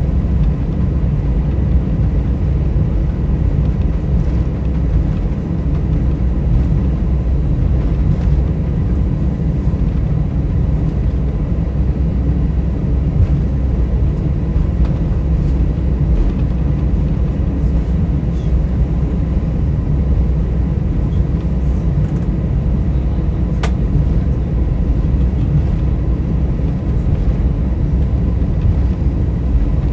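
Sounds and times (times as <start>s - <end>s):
aircraft engines idling: 0.0s - 29.9s
cabin air noise: 0.0s - 29.9s.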